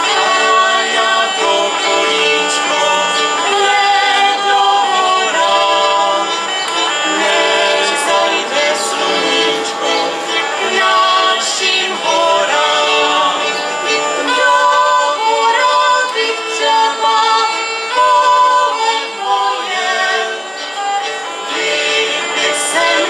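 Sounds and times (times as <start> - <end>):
folk band playing: 0.0 - 23.0
group singing folk song: 0.0 - 23.0.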